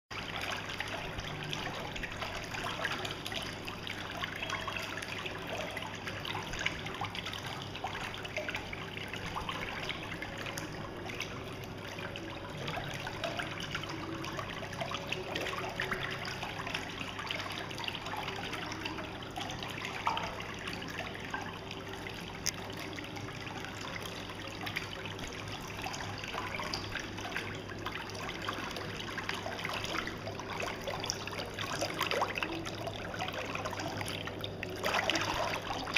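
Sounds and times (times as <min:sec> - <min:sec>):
whirlpool jets bubbling water: 0:00.1 - 0:35.9.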